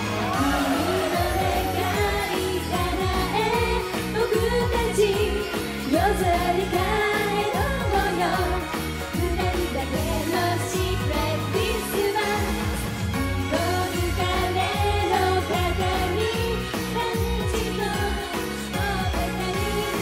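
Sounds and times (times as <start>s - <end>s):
pop backing music: 0.0s - 20.0s
women singing: 0.0s - 20.0s.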